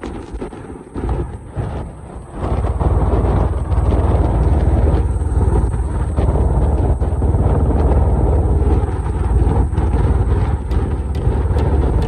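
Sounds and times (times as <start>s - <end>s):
motorcycle engine rumbling: 1.1s - 12.0s.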